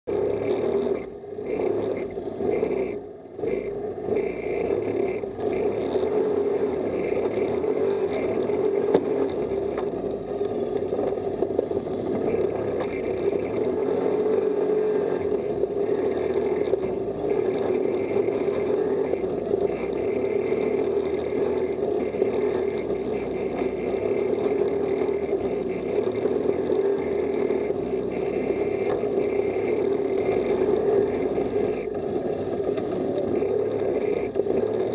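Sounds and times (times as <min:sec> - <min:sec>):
buggy engine running: 0:00.0 - 0:34.9.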